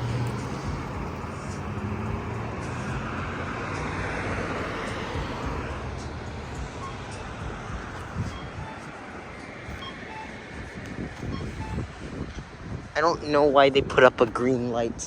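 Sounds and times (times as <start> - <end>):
car engines running: 0.0 - 15.0
tyre noise of passing car: 0.0 - 15.0.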